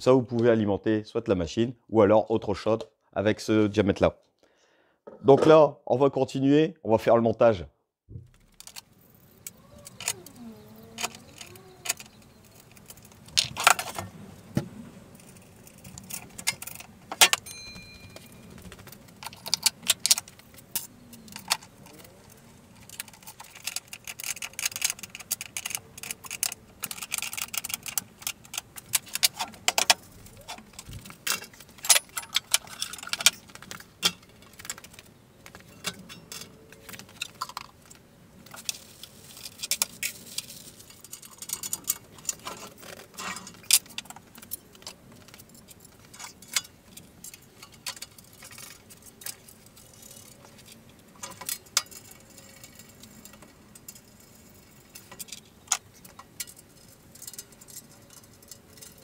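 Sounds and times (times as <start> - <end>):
metal parts clinking and rattling: 8.3 - 59.0.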